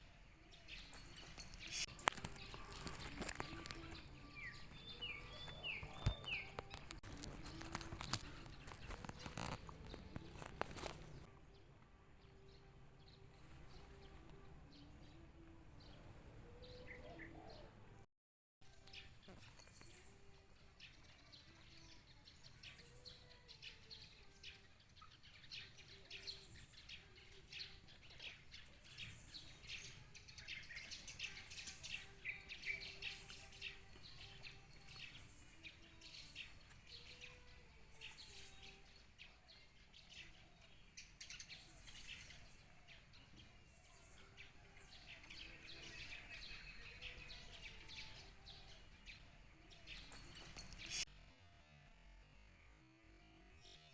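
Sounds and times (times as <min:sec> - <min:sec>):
faint birds chirping: 0:00.0 - 0:53.9.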